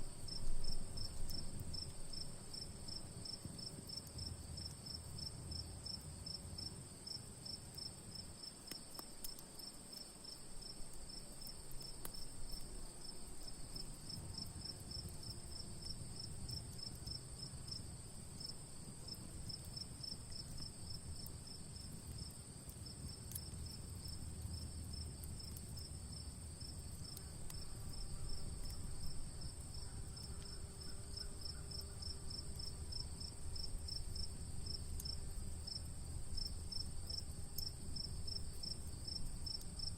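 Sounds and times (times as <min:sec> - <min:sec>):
crickets chirping: 0:00.0 - 0:39.9
high insect hiss: 0:00.0 - 0:39.9
campfire crackling: 0:00.1 - 0:31.2, 0:32.2 - 0:39.9.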